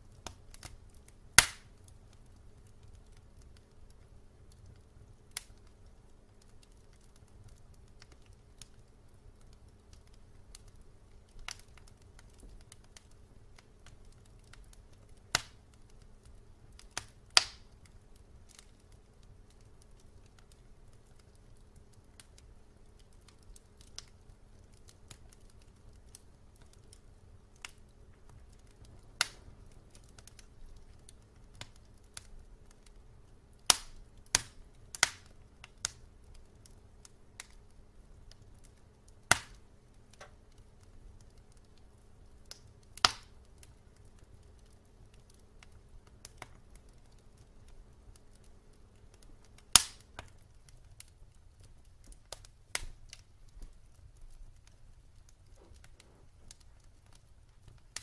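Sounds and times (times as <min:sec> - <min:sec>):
faint low hum: 0:00.0 - 0:58.0
wood fire crackling: 0:00.0 - 0:58.0.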